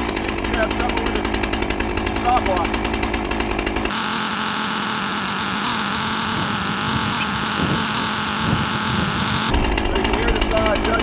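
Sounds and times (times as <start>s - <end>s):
chainsaw idling: 0.0s - 10.2s.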